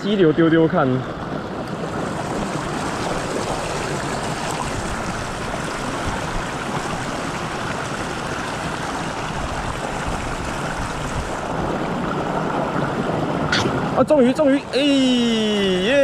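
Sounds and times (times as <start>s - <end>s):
stream rushing over rocks: 1.0s - 16.0s.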